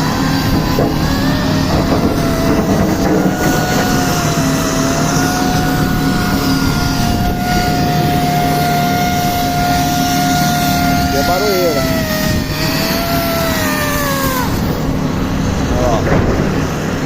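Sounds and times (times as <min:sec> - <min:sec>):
diesel engines running: 0:00.0 - 0:17.0
steady high whine: 0:00.0 - 0:17.0.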